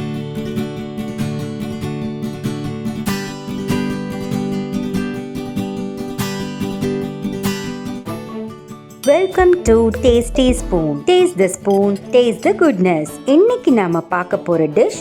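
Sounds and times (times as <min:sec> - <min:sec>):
acoustic guitar strumming: 0:00.0 - 0:13.4.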